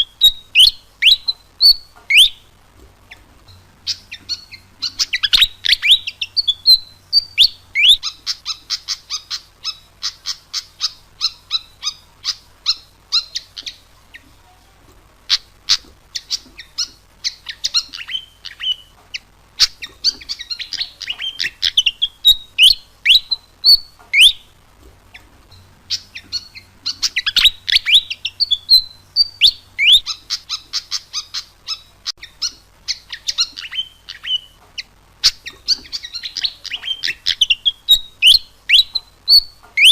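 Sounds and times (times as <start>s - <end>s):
bird singing high chirps and whistles: 0.0s - 2.5s, 3.5s - 14.2s, 15.3s - 24.5s, 25.5s - 39.9s.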